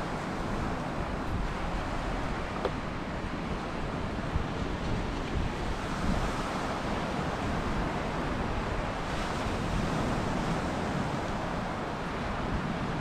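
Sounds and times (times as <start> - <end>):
sea surf on a beach: 0.0 - 13.0
wind on microphone: 0.0 - 13.0.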